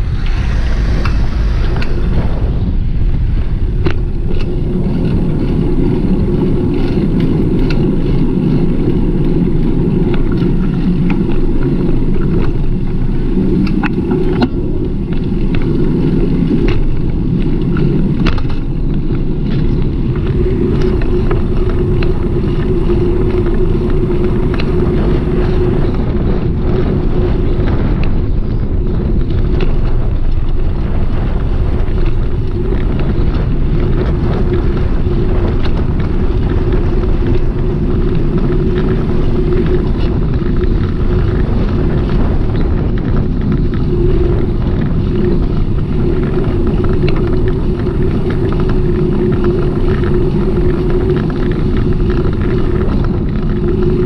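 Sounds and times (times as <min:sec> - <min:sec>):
bicycle rolling and wind noise: 0:00.0 - 0:54.0
bicycle rattles and clicks: 0:03.7 - 0:54.0.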